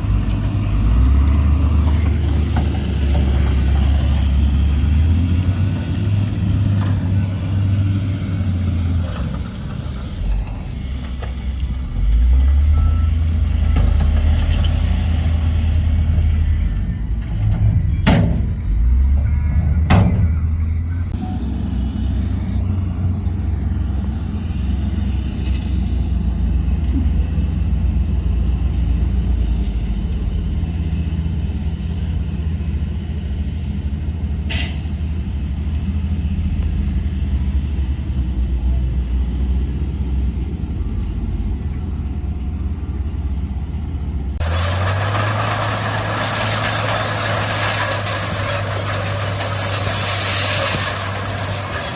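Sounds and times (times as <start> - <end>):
diesel machinery humming: 0.0 - 51.9.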